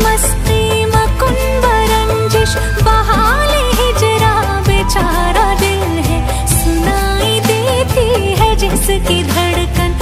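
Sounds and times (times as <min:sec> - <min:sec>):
film-style song with singer: 0:00.0 - 0:10.0.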